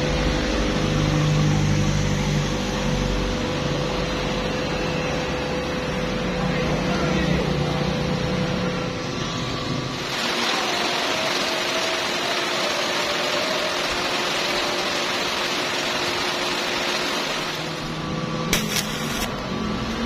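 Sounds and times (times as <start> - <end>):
cooling fan whirring hiss: 3.6 - 20.0.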